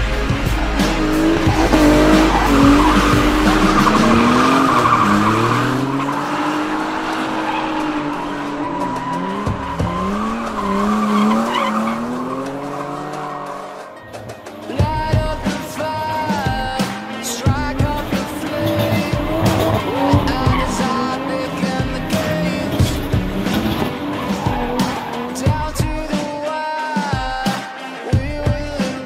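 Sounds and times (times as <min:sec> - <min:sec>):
engines revving hard: 0:00.0 - 0:25.9
tyres squealing: 0:00.6 - 0:26.3.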